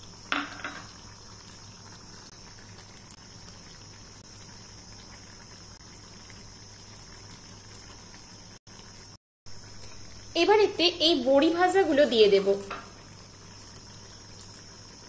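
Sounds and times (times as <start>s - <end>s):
curry bubbling and hissing: 0.0s - 15.0s.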